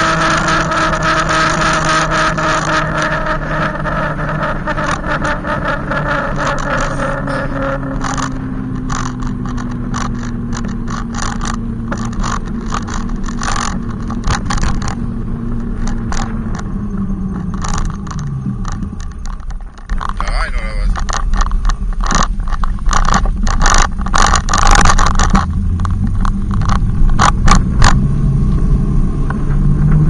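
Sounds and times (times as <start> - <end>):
scraping crackles: 0.0 - 28.7
e-bike motor droning hum: 0.0 - 30.0.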